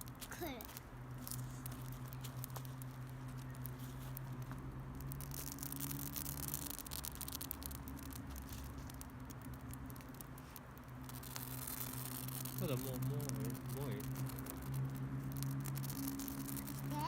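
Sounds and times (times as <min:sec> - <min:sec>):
campfire crackling and popping: 0:00.0 - 0:17.0
low hum: 0:00.0 - 0:17.0.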